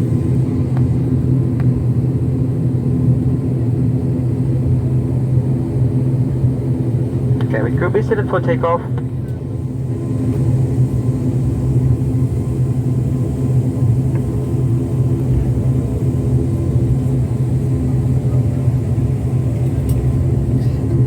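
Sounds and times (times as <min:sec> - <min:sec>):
airliner engine drone in cabin: 0:00.0 - 0:21.0.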